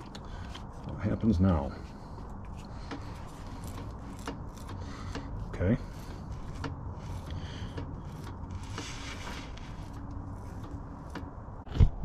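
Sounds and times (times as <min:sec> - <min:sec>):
clicks and scrapes of tools: 0:00.0 - 0:01.0, 0:01.9 - 0:11.4
low steady rumble: 0:00.0 - 0:12.0.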